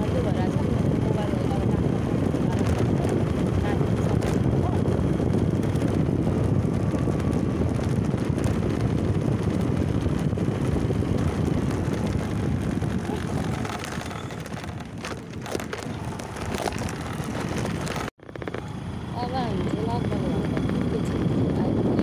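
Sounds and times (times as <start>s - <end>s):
motorbike engine: 0.0s - 22.0s
road noise: 0.0s - 22.0s
wind buffeting microphone: 0.0s - 22.0s.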